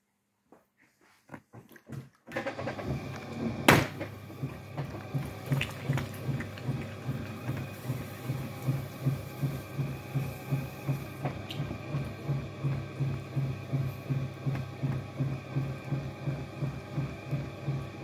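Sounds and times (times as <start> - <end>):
potter's wheel spinning: 2.3 - 18.0.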